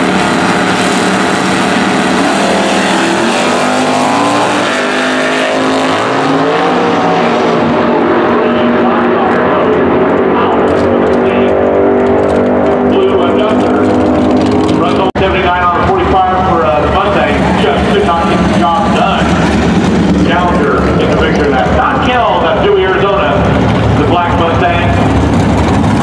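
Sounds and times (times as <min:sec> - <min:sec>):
drag racing cars accelerating: 0:00.0 - 0:26.0.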